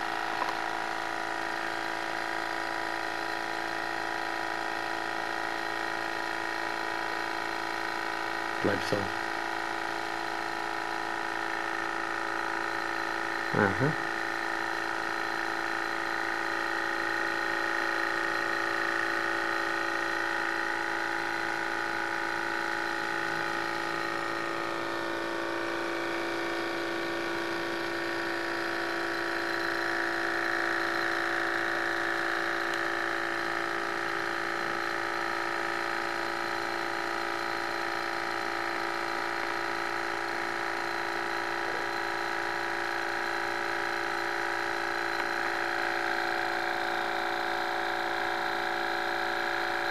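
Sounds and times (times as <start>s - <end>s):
model engine mechanical whir: 0.0s - 49.9s.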